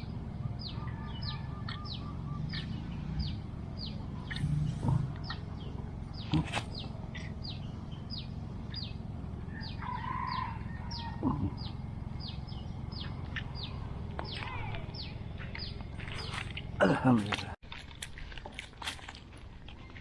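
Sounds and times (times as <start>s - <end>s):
low steady background rumble: 0.0s - 20.0s.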